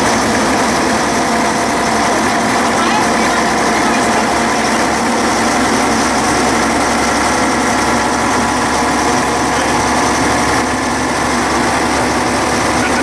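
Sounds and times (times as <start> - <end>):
railcar engine drone: 0.0 - 13.0
wheel and rail noise: 0.0 - 13.0.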